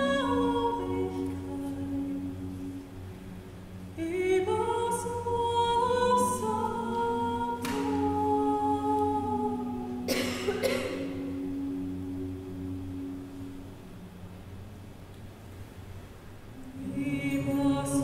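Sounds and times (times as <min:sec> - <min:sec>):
woman singing slow melody: 0:00.0 - 0:13.6, 0:16.6 - 0:18.0
low held drone: 0:00.0 - 0:18.0.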